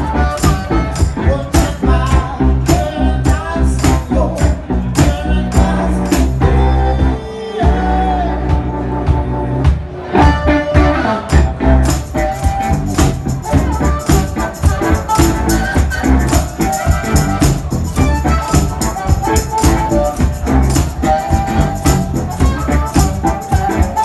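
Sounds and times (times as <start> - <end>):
amplified harmonica: 0.0 - 4.7, 5.5 - 24.0
blues-rock band playing: 0.0 - 24.0.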